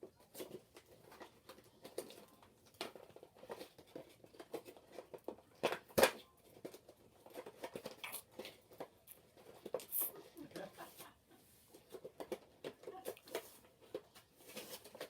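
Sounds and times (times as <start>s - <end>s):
packaging clicks and rustles: 0.0s - 10.2s, 11.7s - 15.0s.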